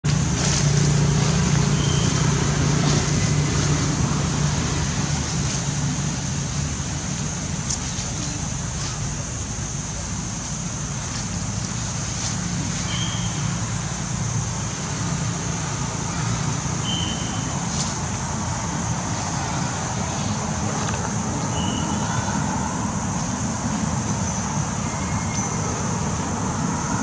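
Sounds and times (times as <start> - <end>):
constant high hiss: 0.0 - 27.0
engine hum: 0.0 - 27.0
road traffic noise: 0.0 - 27.0.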